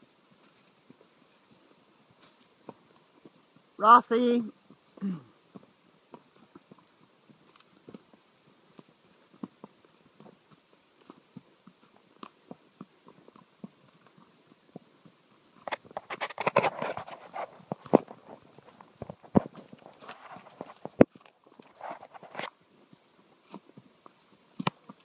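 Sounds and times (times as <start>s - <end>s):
hooves on dirt trail: 0.0s - 25.0s.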